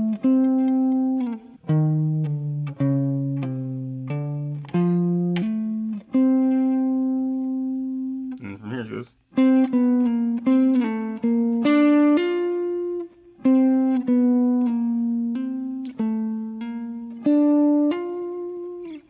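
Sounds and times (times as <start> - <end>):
guitar playing single notes: 0.0 - 19.0.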